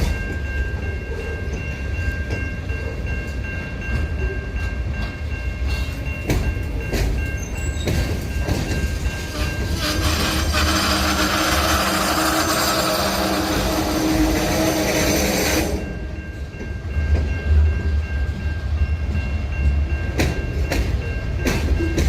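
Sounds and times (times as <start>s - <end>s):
clanks and knocks from train cars: 0.0s - 22.0s
freight train rumbling: 0.0s - 22.0s.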